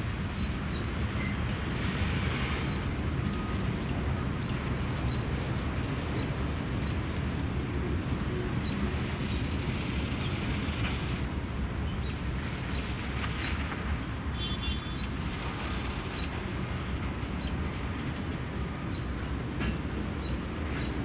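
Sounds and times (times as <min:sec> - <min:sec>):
freight cars rolling: 0:00.0 - 0:21.0.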